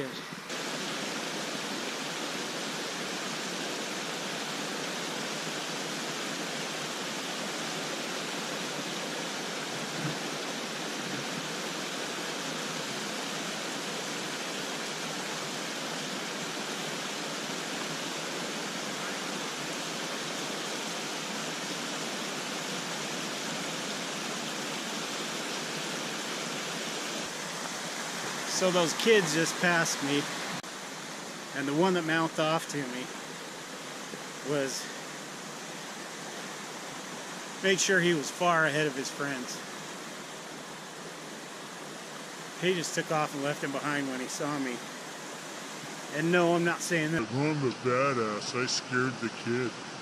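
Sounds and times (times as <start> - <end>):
mountain creek rushing: 0.0 - 50.0.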